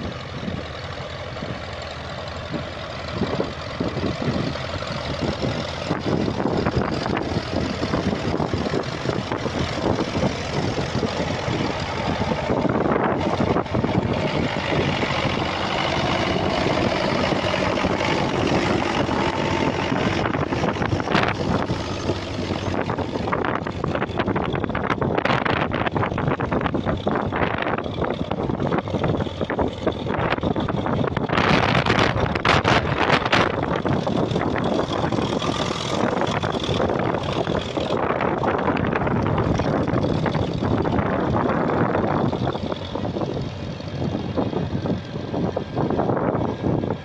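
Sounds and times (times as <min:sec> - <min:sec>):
tractor engines working under load: 0:00.0 - 0:47.0.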